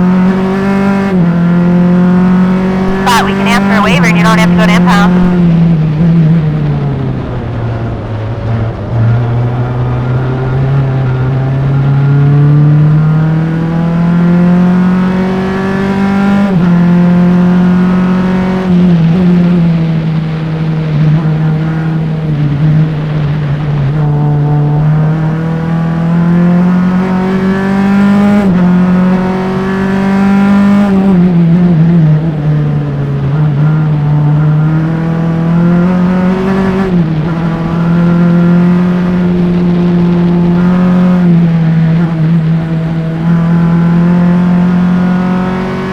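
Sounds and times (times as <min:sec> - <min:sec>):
race car engine: 0:05.1 - 0:45.9.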